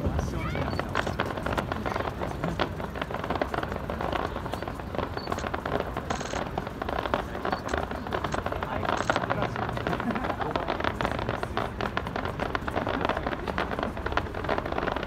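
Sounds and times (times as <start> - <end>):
fireworks barrage: 0.0 - 15.0.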